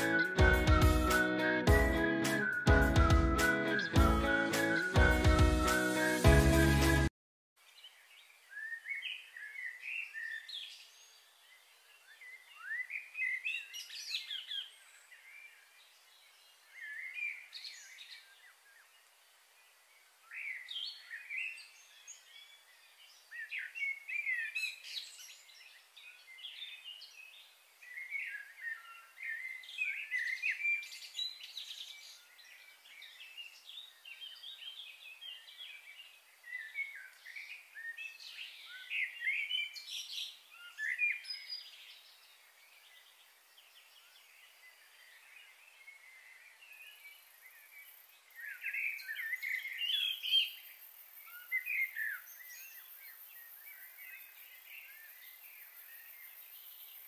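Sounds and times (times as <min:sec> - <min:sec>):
faint background hiss: 0:07.6 - 0:57.0
small birds chirping: 0:07.6 - 0:57.0.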